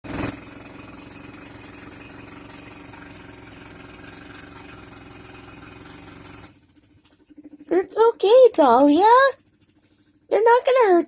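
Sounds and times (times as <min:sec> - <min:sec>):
jackhammer hammering: 0:00.0 - 0:11.0.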